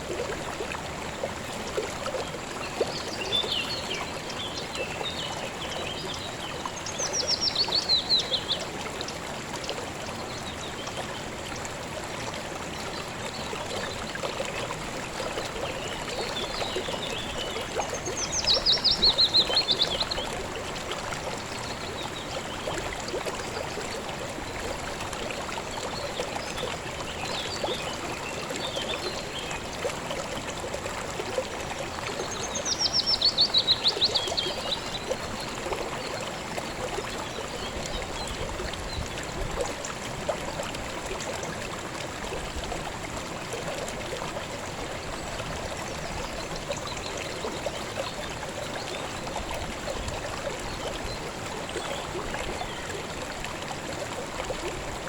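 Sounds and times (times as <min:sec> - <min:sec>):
stream water running: 0:00.0 - 0:55.0.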